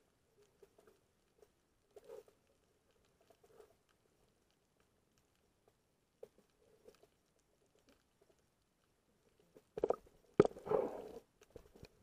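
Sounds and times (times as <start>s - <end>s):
muffled underwater crackling: 0.0s - 12.0s.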